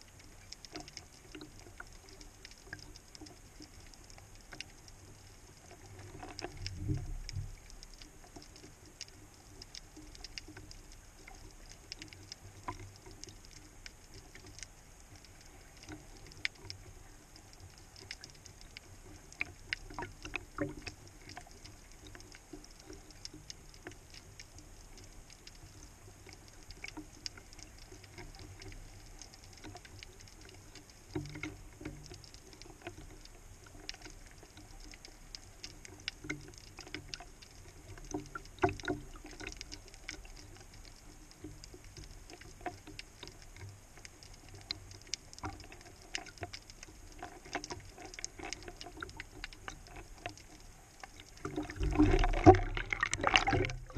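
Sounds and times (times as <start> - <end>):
low underwater rumble: 0.0 - 32.7, 36.8 - 53.9
underwater clicks and crackles: 0.0 - 53.9.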